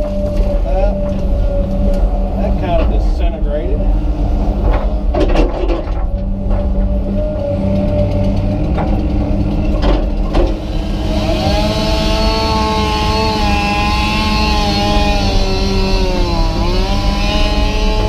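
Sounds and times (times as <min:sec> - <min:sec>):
excavator diesel engine running: 0:00.0 - 0:18.0
wavering whining tones: 0:00.0 - 0:18.0.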